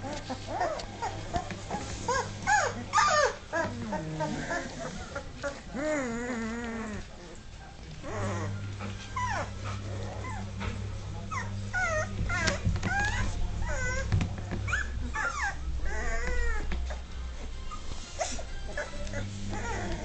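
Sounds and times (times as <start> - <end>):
puppies crying: 0.0 - 7.4, 8.0 - 10.7, 11.3 - 20.0.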